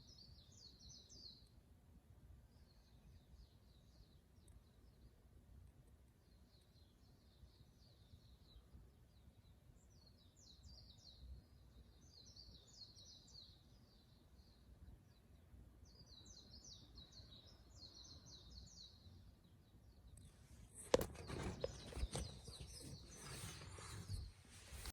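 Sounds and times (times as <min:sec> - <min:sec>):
small birds twittering: 0:00.0 - 0:01.5, 0:02.5 - 0:05.2, 0:06.2 - 0:24.9
low steady background rumble: 0:00.0 - 0:24.9.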